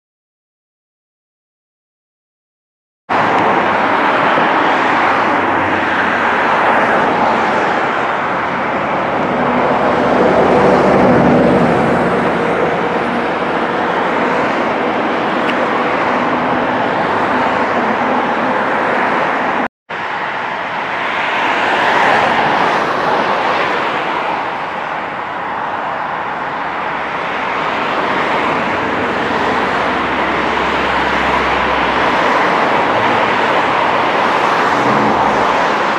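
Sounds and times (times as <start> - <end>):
airliner jet noise: 3.1 - 35.9.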